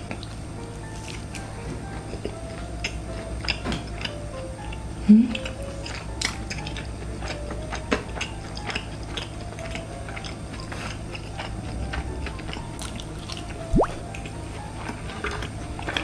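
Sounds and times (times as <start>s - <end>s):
person chewing crispy snacks: 0.0s - 16.0s.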